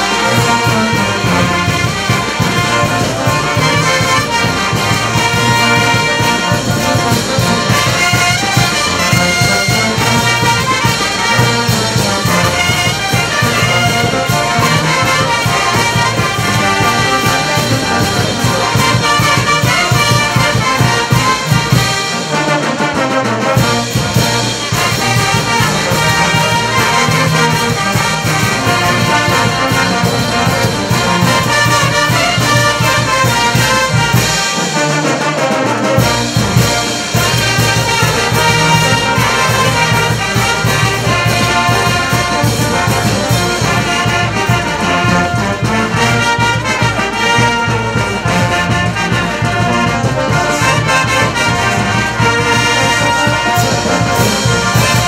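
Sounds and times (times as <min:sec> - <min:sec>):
bass drum snare and cymbals: 0:00.0 - 0:55.0
brass band playing: 0:00.0 - 0:55.0.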